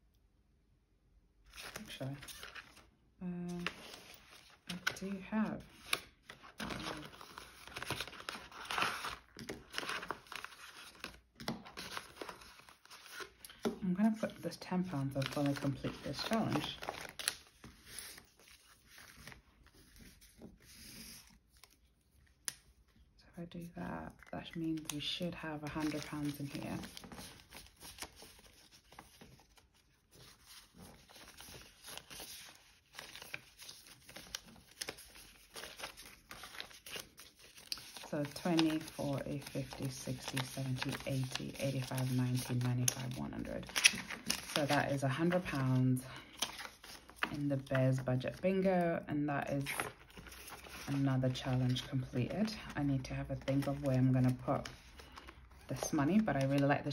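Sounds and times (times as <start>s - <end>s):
paper banknotes rustling: 3.4s - 22.8s, 24.6s - 48.8s, 49.5s - 56.9s.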